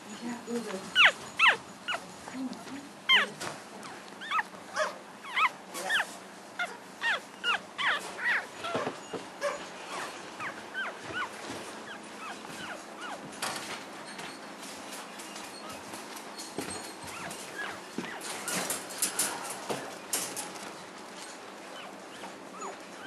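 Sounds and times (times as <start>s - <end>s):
puppies squeaking and whimpering: 0.4s - 20.0s, 21.2s - 23.0s.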